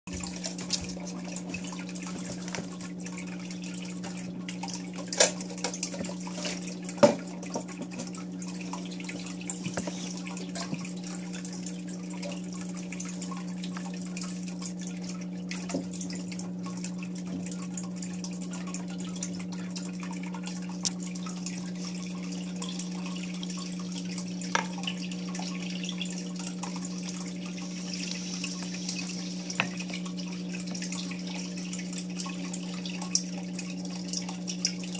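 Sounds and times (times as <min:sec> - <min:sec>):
aquarium filter humming: 0:00.1 - 0:34.9
water trickling and dripping: 0:00.1 - 0:34.9.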